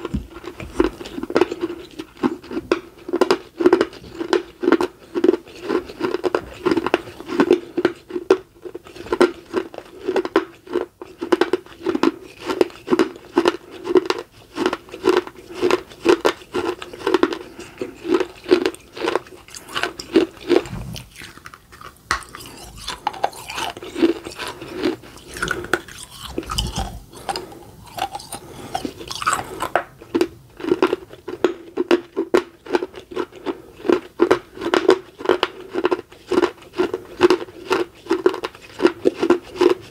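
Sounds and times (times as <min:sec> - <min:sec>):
person chewing crunchy clay: 0:00.0 - 0:39.9.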